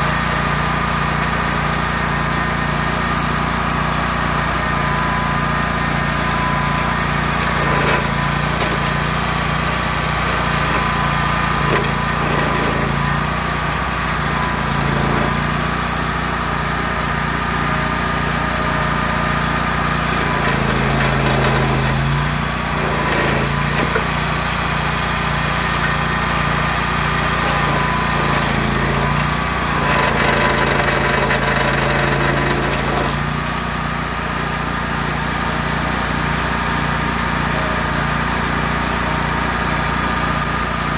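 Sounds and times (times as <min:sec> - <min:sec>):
cutter wheel grinding stump: 0:00.0 - 0:40.9
stump grinder engine running: 0:00.0 - 0:40.9.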